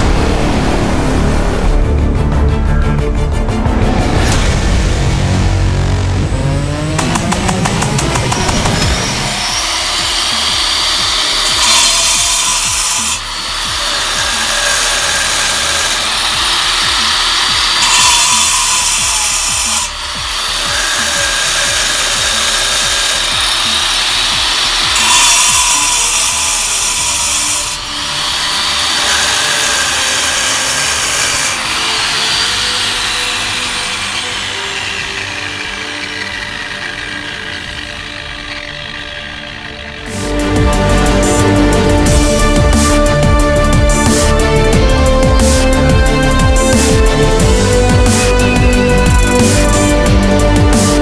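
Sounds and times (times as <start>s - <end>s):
angle grinder cutting masonry: 5.0s - 51.0s.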